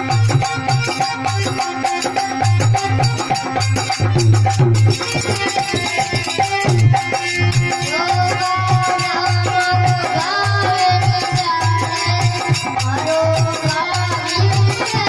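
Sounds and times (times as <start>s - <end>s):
drum rhythm: 0.0s - 15.0s.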